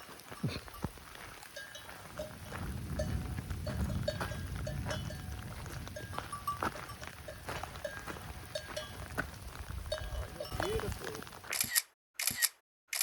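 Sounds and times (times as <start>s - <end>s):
livestock bells clanking: 0.0s - 11.4s.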